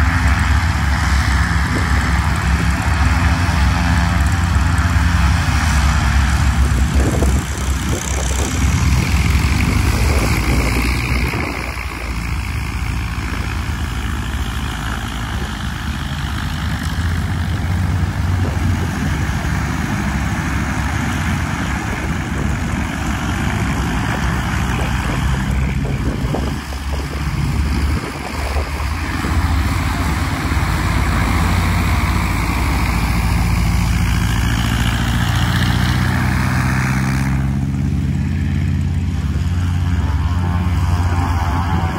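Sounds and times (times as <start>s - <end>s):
light plane engines droning: 0.0s - 41.9s.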